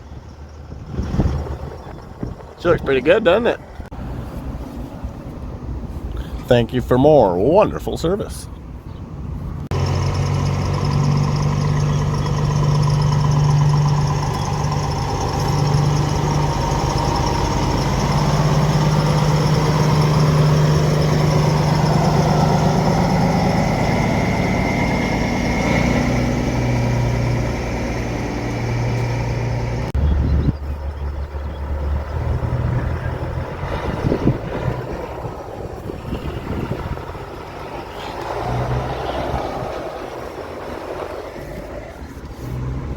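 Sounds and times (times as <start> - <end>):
diesel truck engine pulling away: 0.0 - 6.9, 7.5 - 42.9.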